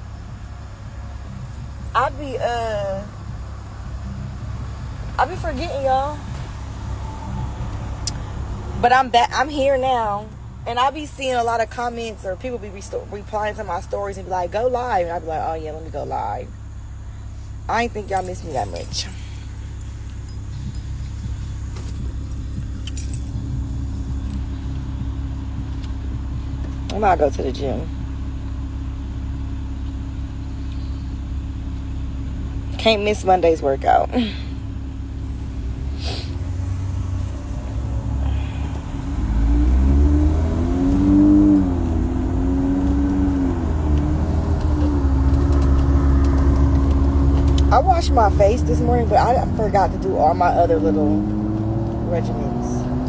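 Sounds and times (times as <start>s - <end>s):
car cabin rumble: 0.0s - 53.0s.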